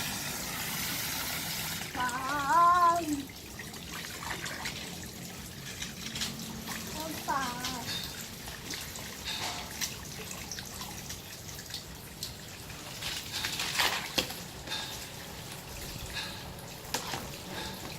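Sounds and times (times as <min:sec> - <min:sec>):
water splashing and dripping: 0:00.0 - 0:17.9.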